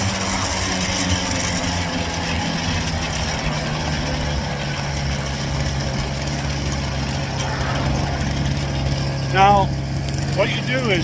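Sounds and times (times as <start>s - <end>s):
two-stroke scooter engine running: 0.0s - 7.4s, 8.3s - 11.0s.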